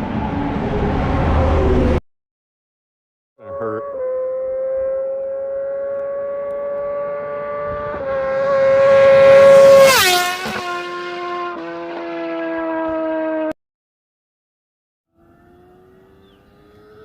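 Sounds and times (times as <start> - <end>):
motorbike passing at speed: 0.0 - 2.0, 3.4 - 13.6, 15.1 - 17.0.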